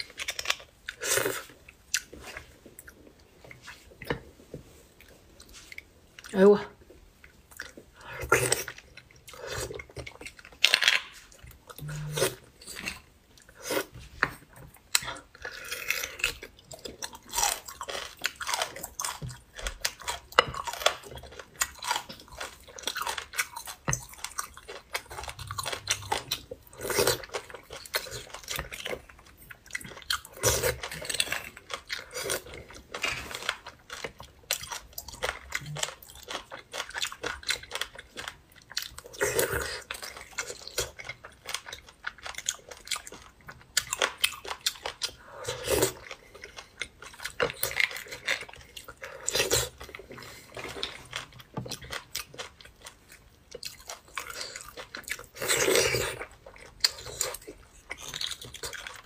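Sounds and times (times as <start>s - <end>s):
person chewing wetly: 0.0s - 6.4s, 7.1s - 59.0s.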